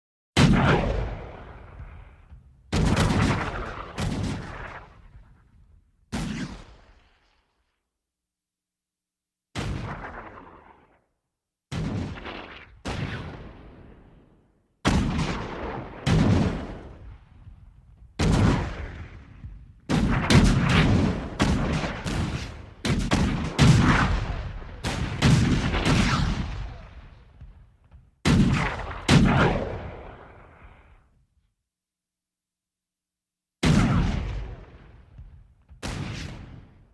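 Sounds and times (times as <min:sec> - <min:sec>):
cannon fire: 0:00.4 - 0:07.5, 0:09.6 - 0:11.1, 0:11.7 - 0:31.1, 0:33.6 - 0:36.9.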